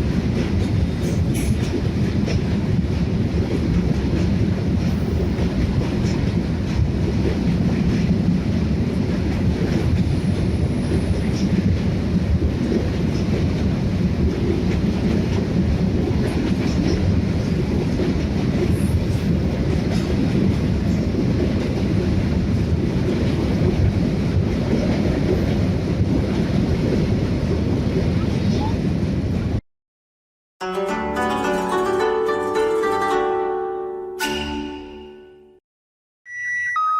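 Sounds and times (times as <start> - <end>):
freight train wheels rumbling: 0.0 - 29.6.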